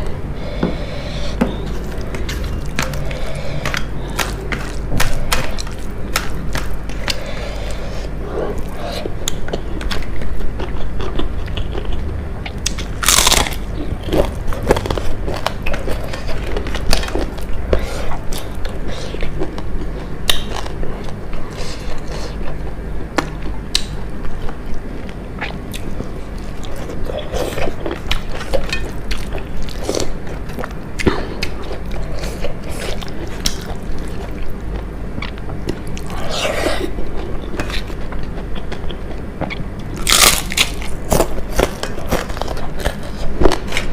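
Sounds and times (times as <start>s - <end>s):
crunching and chewing food: 0.0s - 43.9s.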